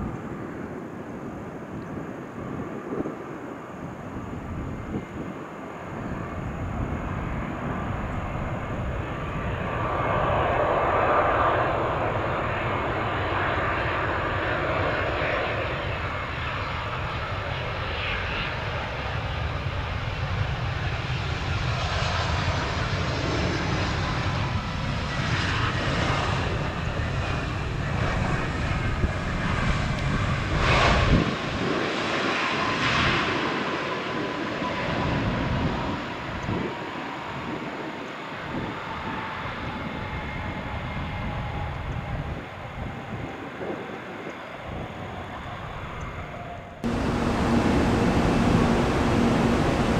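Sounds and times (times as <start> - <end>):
jet airliner engines running: 0.0 - 49.9.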